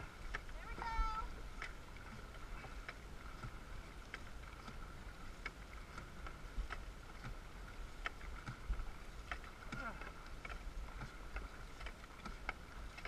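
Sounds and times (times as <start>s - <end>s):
paddles splashing through water: 0.0s - 13.0s.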